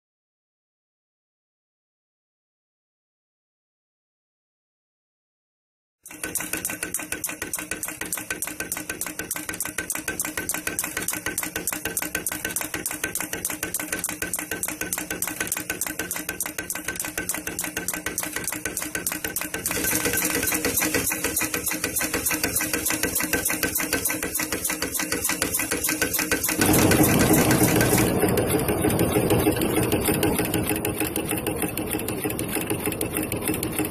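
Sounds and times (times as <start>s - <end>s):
machine clacking metallically: 6.0s - 33.9s.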